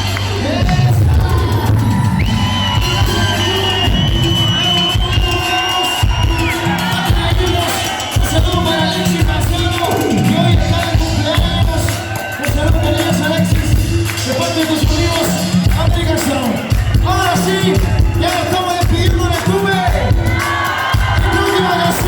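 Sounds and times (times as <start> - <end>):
cumbia band playing: 0.0 - 22.0.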